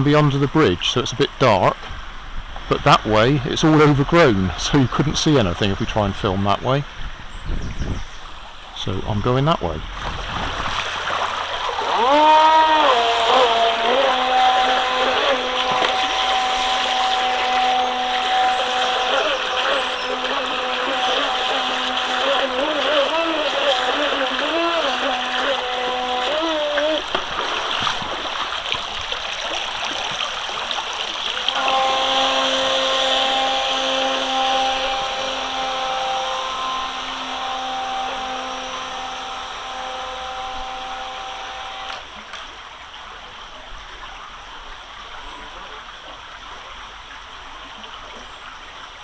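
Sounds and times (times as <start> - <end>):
electric boat motor whining: 0.0 - 28.2, 31.3 - 42.4
brook water rushing: 0.0 - 49.0.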